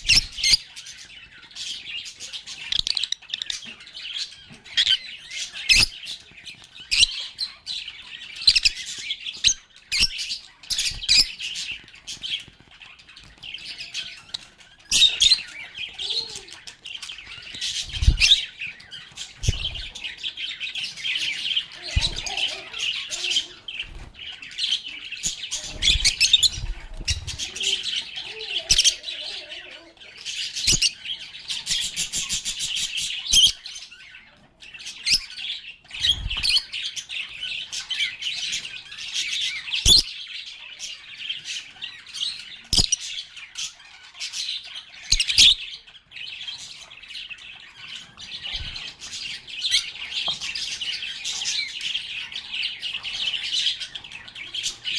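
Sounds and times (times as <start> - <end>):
lovebirds chirping and chattering: 0.0 - 54.9.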